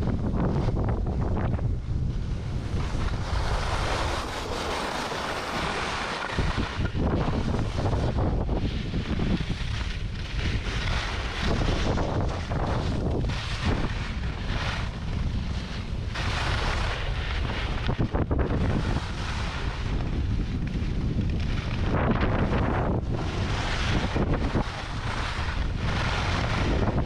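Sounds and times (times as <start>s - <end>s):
ski edges carving snow: 0.0s - 27.0s
wind buffeting microphone: 0.0s - 27.0s.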